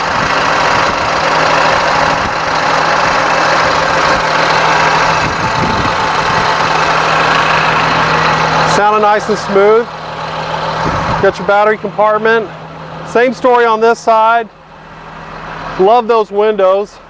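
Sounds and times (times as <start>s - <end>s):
diesel engine idling: 0.0s - 17.0s
engine hiss: 0.0s - 17.0s.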